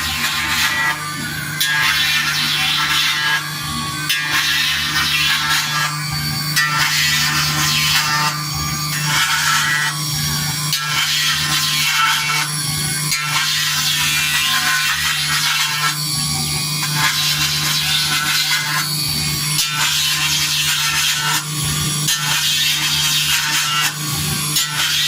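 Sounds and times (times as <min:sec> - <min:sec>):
cutter scraping metal: 0:00.0 - 0:25.0.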